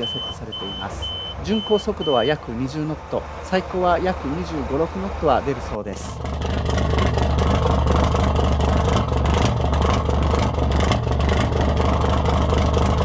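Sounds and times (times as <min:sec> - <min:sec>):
marine diesel engine running: 0:00.0 - 0:13.0.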